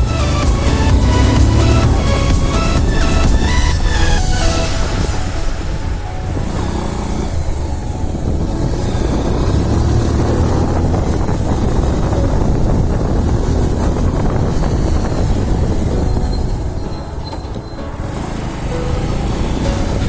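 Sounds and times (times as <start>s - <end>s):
motorcycle engine cruising: 0.0s - 20.0s
wind on microphone: 0.0s - 20.0s.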